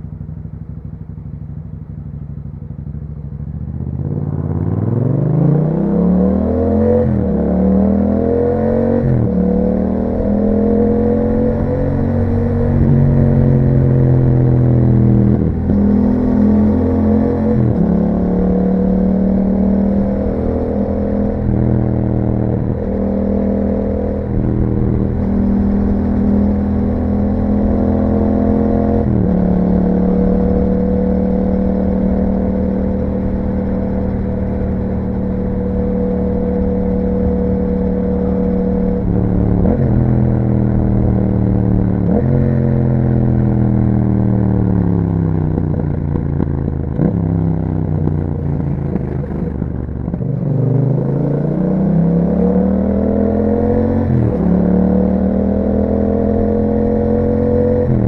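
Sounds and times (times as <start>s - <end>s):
motorcycle engine revving: 0.3s - 58.0s.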